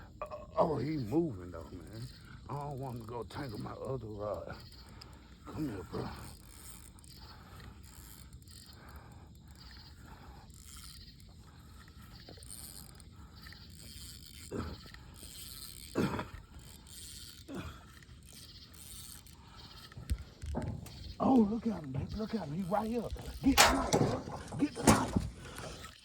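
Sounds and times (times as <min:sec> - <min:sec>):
fishing reel clicking and whirring: 0:00.0 - 0:23.7.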